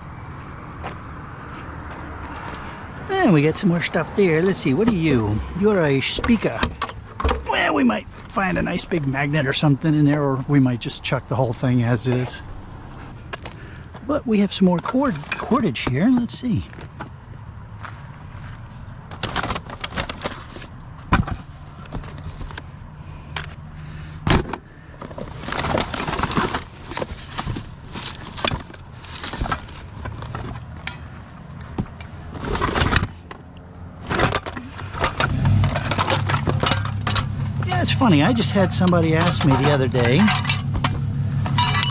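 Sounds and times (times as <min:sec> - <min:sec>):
junk clattering and scraping: 0:01.9 - 0:09.7, 0:13.0 - 0:23.6, 0:24.2 - 0:41.9.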